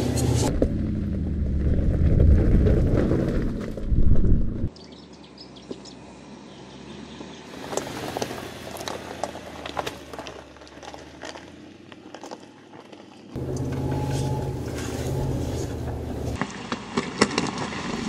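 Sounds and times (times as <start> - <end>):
low engine hum: 0.0 - 16.5
gravel crunching under tyres: 0.0 - 18.0.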